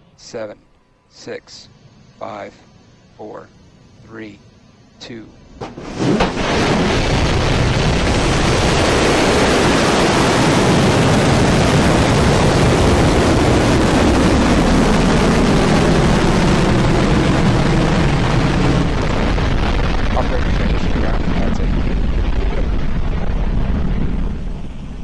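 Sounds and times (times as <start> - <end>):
rocket engines roaring: 1.2 - 25.0.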